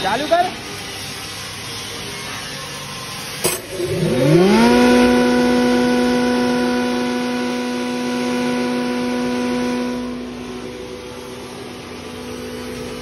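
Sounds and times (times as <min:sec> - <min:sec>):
grinder motor whining: 0:01.9 - 0:13.0.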